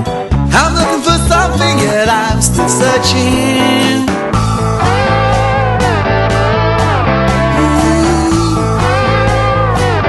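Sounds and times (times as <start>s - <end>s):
bass and drums: 0.0s - 10.0s
electric guitar lead: 0.0s - 10.0s
person singing: 0.5s - 10.0s.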